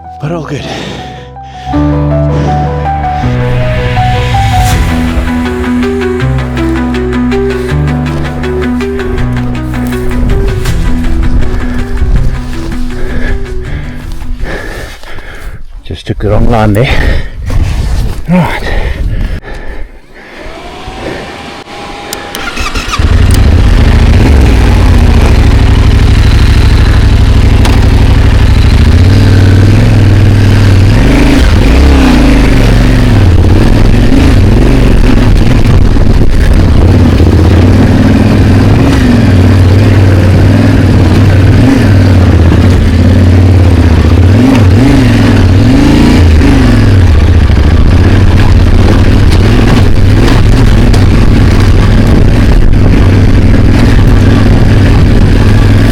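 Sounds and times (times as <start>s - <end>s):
motorcycle engine under load: 2.5s - 15.5s, 20.4s - 55.9s.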